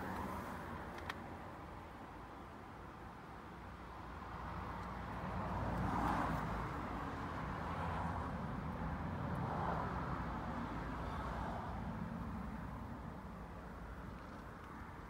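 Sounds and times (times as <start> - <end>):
traffic rushing past: 0.0 - 1.8, 3.6 - 15.0.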